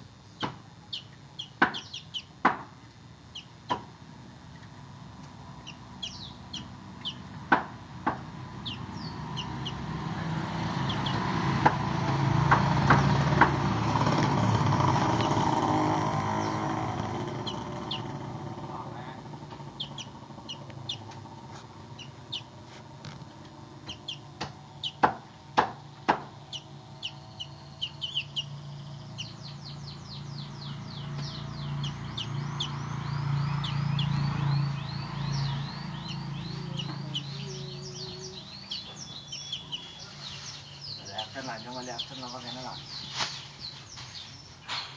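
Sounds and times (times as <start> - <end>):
bird chirping: 0.0 - 2.4, 3.2 - 3.6, 5.5 - 7.4, 8.4 - 44.9
low background rumble: 0.0 - 43.7.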